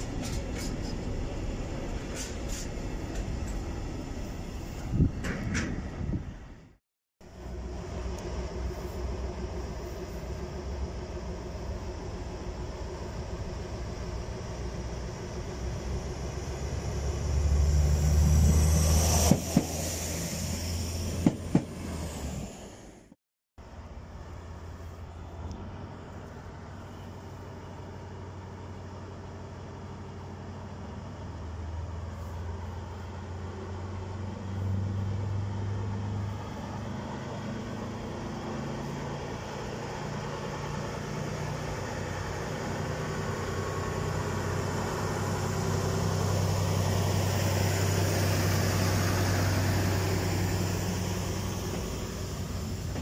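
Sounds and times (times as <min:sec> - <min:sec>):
diesel locomotive engine running: 0:00.0 - 0:53.0.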